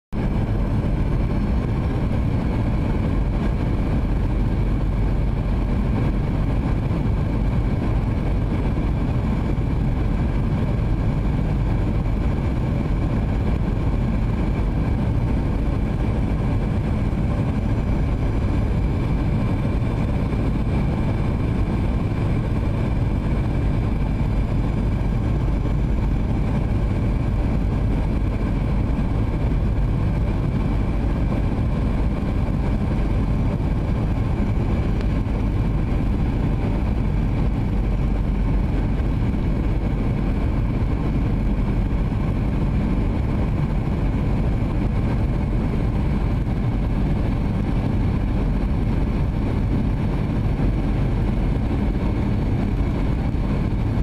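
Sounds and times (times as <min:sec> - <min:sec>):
low rumble of jet engines: 0:00.1 - 0:54.0
faint steady whine: 0:00.2 - 0:54.0.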